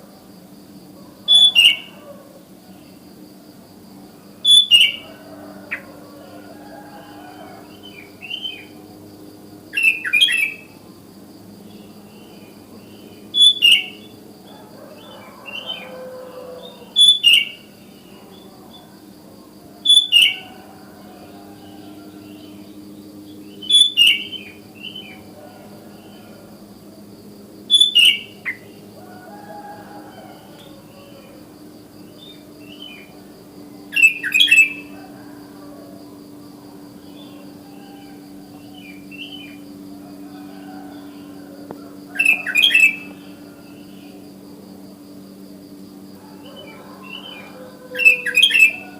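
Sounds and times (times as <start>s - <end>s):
faint steady hum: 0.0s - 48.9s
distant bulbuls calling: 0.8s - 48.9s.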